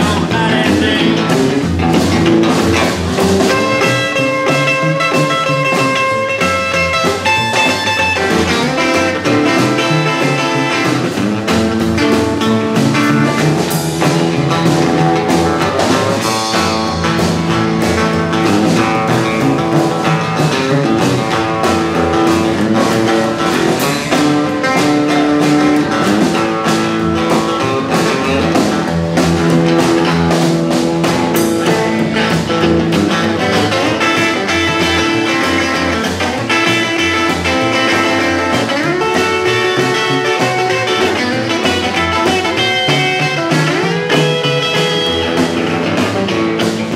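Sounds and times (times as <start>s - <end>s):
electric guitar playing blues: 0.0s - 46.9s
steady drum beat: 0.0s - 46.9s
walking bass line: 0.0s - 46.9s.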